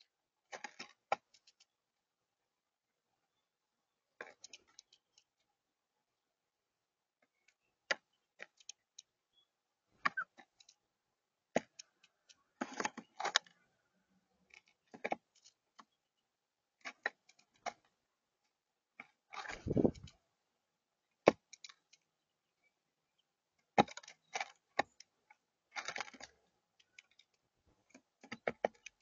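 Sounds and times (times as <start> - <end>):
birds pecking at seed: 0.0 - 6.2, 7.0 - 29.0.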